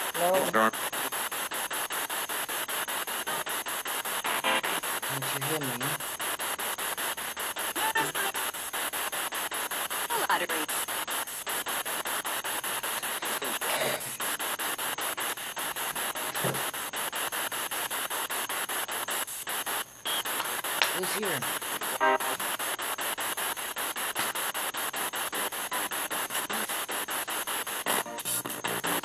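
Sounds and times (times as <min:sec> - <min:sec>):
radio static with rapid clicks: 0:00.0 - 0:29.0
scraps of broadcast voices: 0:00.0 - 0:29.0.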